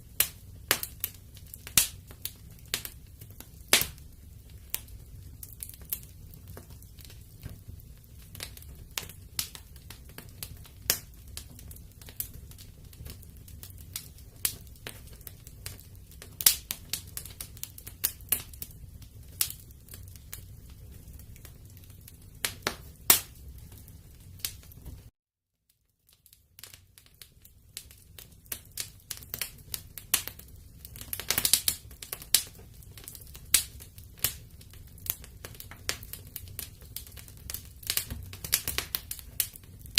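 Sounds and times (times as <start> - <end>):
low rumble of burning: 0.0 - 25.1, 26.0 - 39.9
wood fire crackling and popping: 0.0 - 25.1, 26.0 - 39.9.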